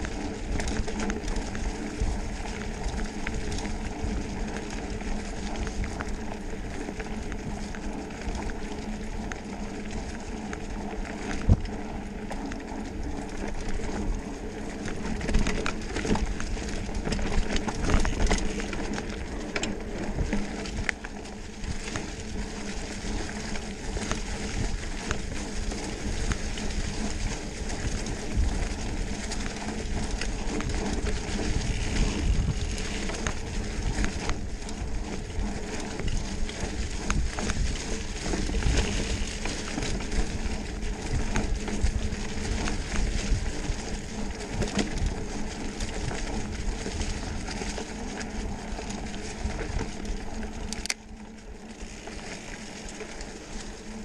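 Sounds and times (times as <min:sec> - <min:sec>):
bike rattles and knocks: 0:00.0 - 0:54.0
bike rolling over dirt trail: 0:00.0 - 0:54.0.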